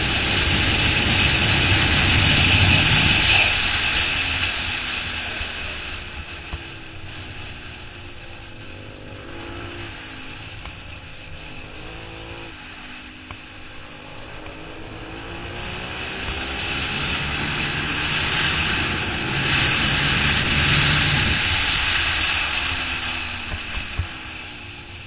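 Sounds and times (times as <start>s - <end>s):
motorcycle engine accelerating: 0.0s - 25.0s
wind noise: 0.0s - 25.0s.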